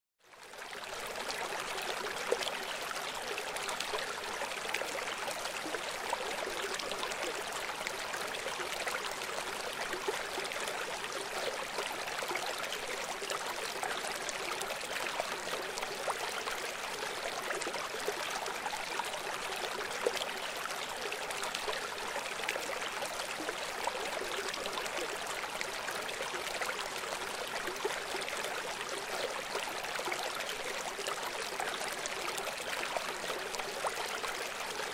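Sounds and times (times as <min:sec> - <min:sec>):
river water flowing: 0:00.4 - 0:34.9.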